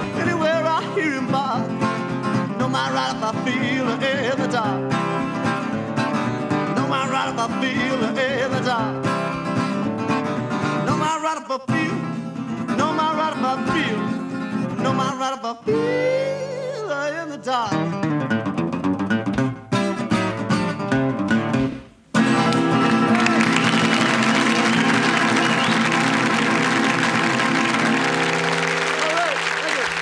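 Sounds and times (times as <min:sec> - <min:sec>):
fingerpicked acoustic guitar: 0:00.0 - 0:28.9.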